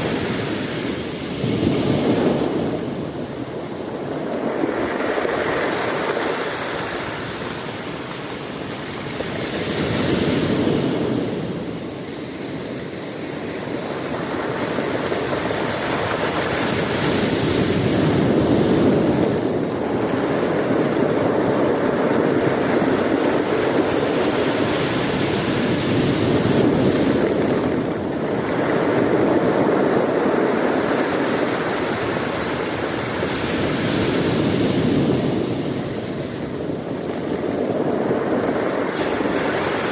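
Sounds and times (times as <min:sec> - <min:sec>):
ocean waves breaking on shore: 0:00.0 - 0:39.9
wind on microphone: 0:00.0 - 0:39.9.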